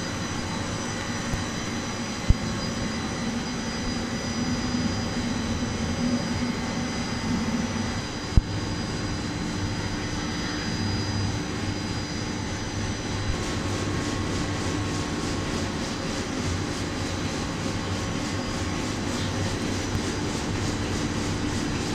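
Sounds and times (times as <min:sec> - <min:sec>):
production line machinery drone: 0:00.0 - 0:21.9.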